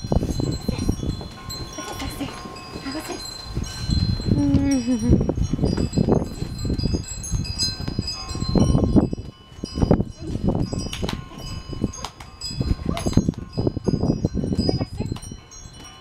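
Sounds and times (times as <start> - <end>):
wind chimes ringing: 0.0 - 16.0.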